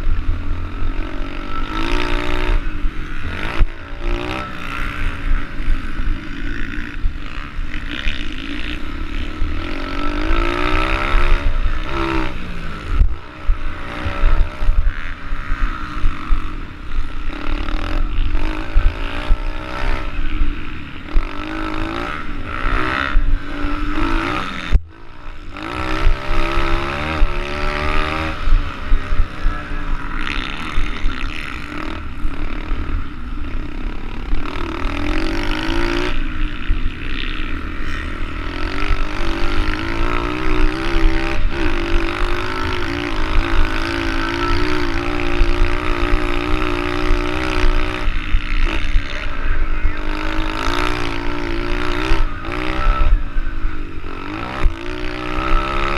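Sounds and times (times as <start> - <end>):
pit bike engine revving: 0.0 - 55.9.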